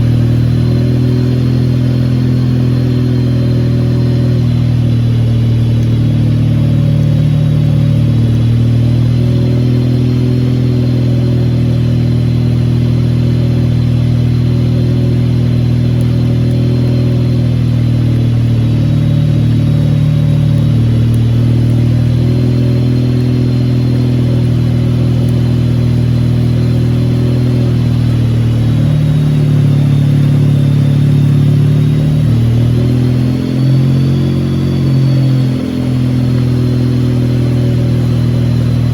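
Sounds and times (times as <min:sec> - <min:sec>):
rotary engine running: 0:00.0 - 0:38.9.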